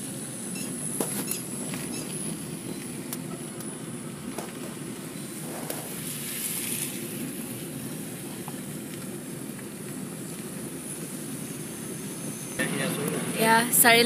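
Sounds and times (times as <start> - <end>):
tyre and engine noise in car: 0.0 - 14.0.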